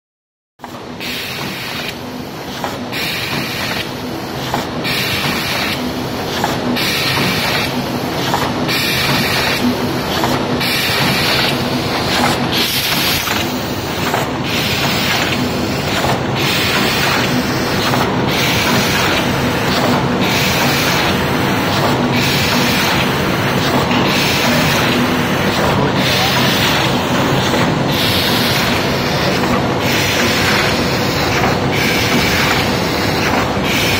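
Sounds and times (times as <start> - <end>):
machine mechanical clatter: 0.6 - 33.9
machine hiss: 1.0 - 33.9.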